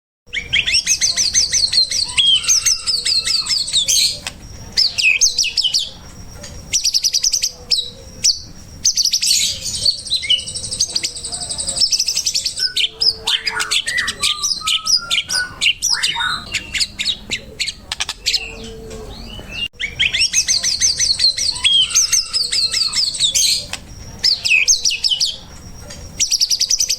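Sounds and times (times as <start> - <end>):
songbird trilling and whistling: 0.3 - 26.9.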